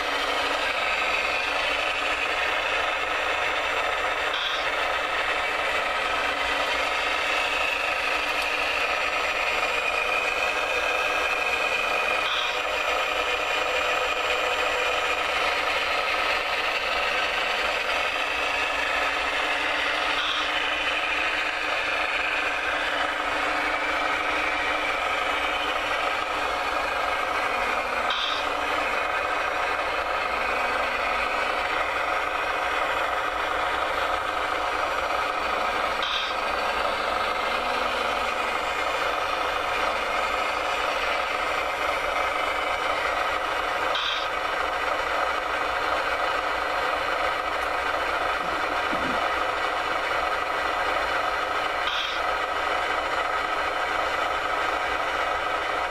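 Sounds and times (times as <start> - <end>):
model machine motor whine: 0.0 - 55.9.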